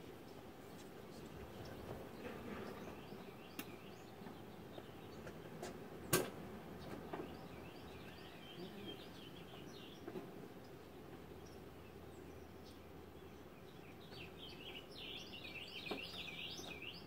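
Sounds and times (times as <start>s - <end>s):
faint background noise: 0.0s - 17.0s
small birds chirping: 0.0s - 17.0s.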